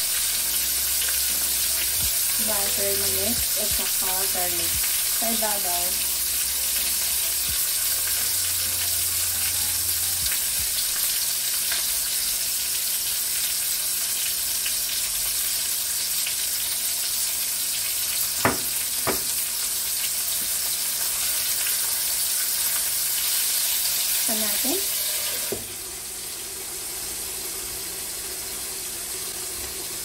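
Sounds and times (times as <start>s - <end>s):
pork chops sizzling in a pan: 0.0s - 30.0s.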